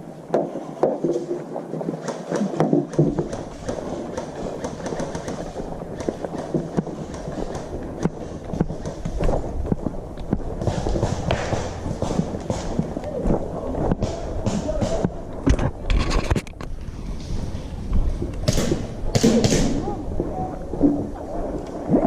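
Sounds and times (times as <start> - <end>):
wind rumbling on microphone: 0.0 - 22.0
footsteps: 0.3 - 19.0.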